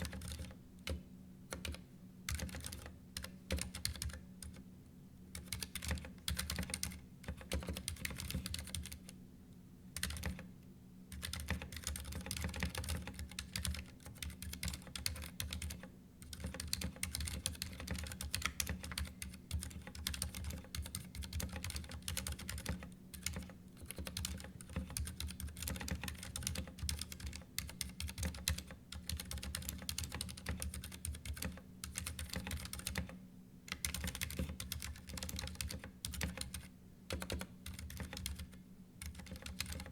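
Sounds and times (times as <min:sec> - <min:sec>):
mechanical keyboard typing: 0:00.0 - 0:04.6, 0:05.3 - 0:09.2, 0:10.0 - 0:10.5, 0:11.1 - 0:39.9.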